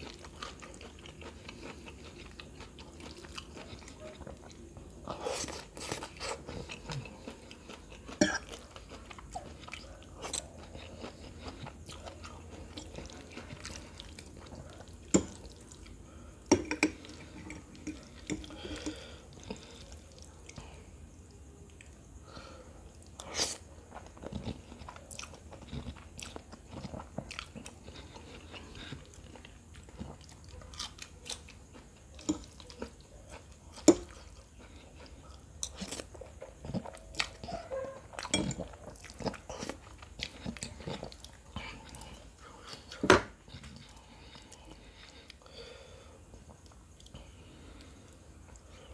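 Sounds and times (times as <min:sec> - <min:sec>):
person chewing noodles: 0:00.0 - 0:48.9.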